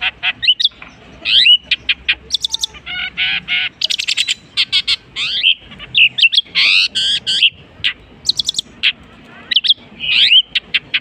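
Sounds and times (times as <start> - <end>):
bird singing varied medley: 0.0 - 11.0.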